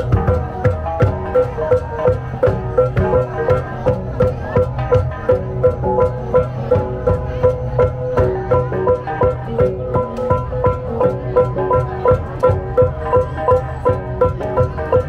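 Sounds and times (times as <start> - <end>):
gong ensemble playing: 0.0 - 15.0.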